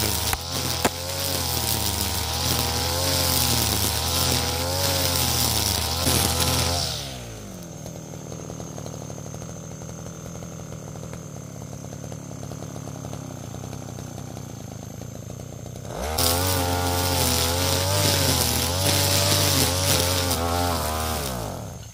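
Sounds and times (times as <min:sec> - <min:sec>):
brush cutter engine idling and revving: 0:00.0 - 0:21.9.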